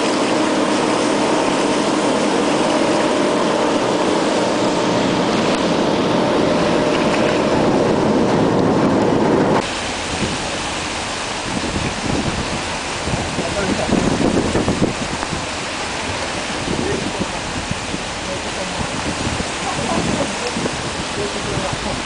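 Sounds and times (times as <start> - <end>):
ship engine droning: 0.0 - 22.0
water and ice rushing along hull: 0.0 - 22.0
wind rumbling on microphone: 0.0 - 22.0.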